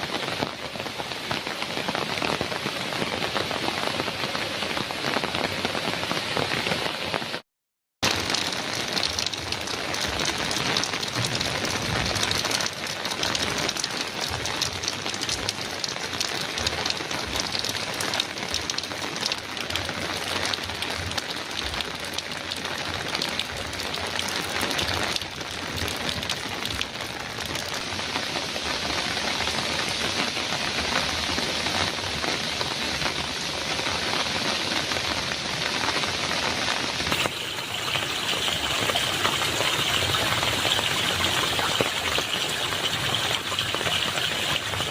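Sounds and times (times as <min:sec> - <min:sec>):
bright hissy rain: 0:00.0 - 0:07.4, 0:08.0 - 0:44.9
heavy rain on a metal roof: 0:00.0 - 0:07.4, 0:08.0 - 0:44.9.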